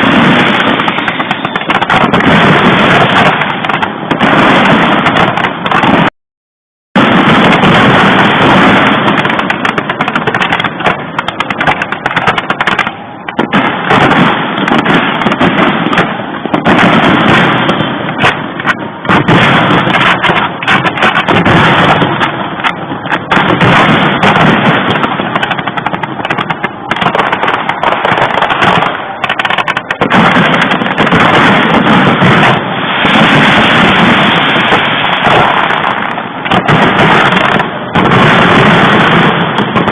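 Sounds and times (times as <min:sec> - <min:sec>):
fireworks crackling and banging: 0:00.0 - 0:06.1, 0:07.0 - 0:39.9.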